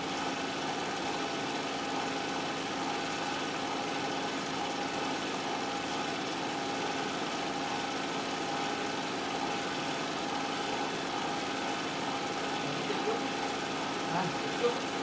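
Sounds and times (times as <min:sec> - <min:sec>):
steady mechanical drone: 0:00.0 - 0:15.0.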